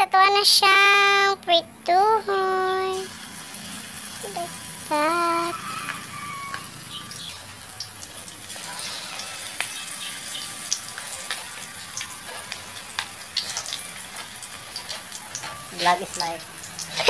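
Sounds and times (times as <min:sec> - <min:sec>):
food sizzling in hot oil: 0:01.9 - 0:17.0
oil crackling and popping: 0:02.8 - 0:17.0.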